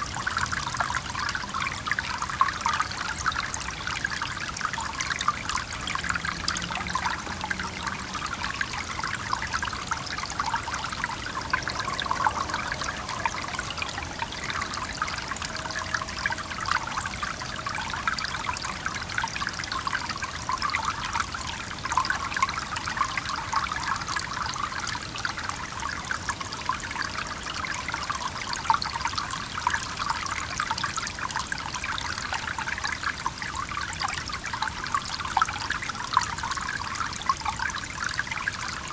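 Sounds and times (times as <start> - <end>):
small stream trickling: 0.0 - 38.9.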